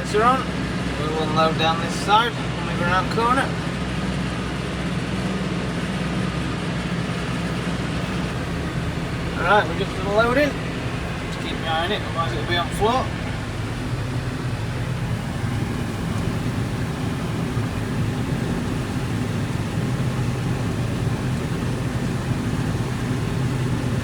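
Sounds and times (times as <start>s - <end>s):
combine harvester engine running: 0.0s - 24.0s.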